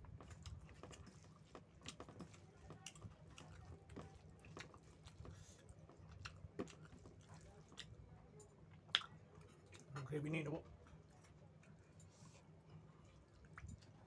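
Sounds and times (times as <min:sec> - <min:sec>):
wet chewing: 0:00.0 - 0:10.0, 0:10.6 - 0:14.0.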